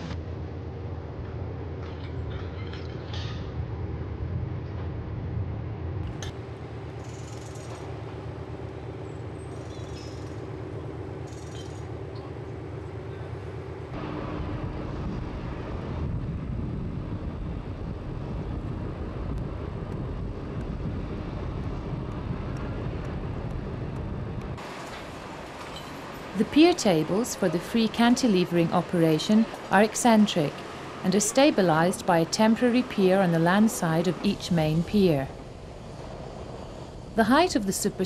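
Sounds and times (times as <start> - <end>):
low engine rumble: 0.0 - 38.0.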